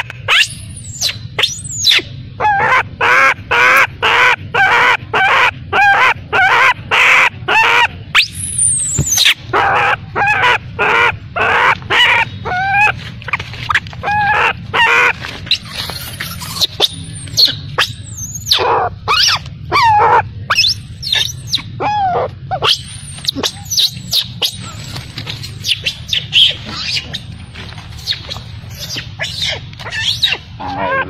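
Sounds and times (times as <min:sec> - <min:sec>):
baby monkey crying: 0:00.0 - 0:13.0, 0:13.7 - 0:31.0.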